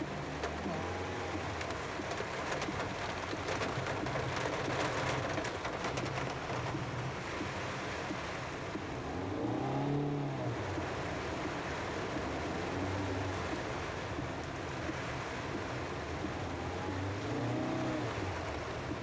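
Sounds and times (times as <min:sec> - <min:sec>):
car engine running low: 0:00.0 - 0:19.0
heavy rain drumming on car roof: 0:00.0 - 0:19.0.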